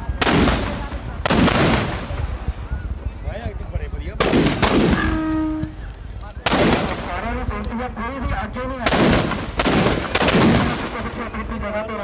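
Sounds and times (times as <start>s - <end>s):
firecrackers banging: 0.0s - 3.1s, 3.8s - 11.8s.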